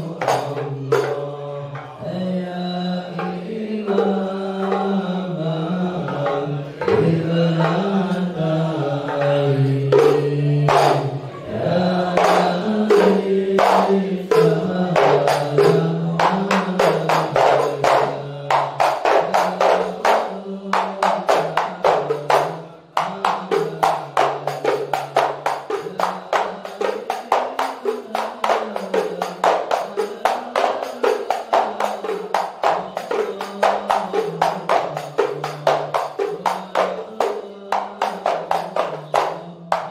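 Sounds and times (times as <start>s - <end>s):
hand-struck frame drums: 0.0s - 2.2s, 3.0s - 39.9s
man chanting into microphone: 0.0s - 39.9s.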